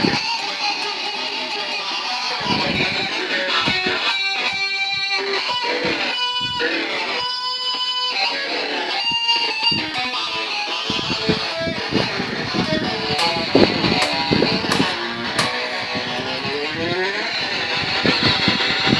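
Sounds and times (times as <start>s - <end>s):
electric guitar notes and chords: 0.0s - 18.9s.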